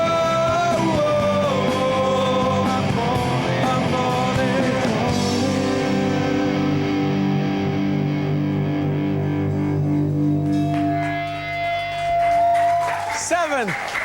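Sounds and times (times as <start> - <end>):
bass guitar: 0.0 - 13.1
distorted electric guitars: 0.0 - 13.4.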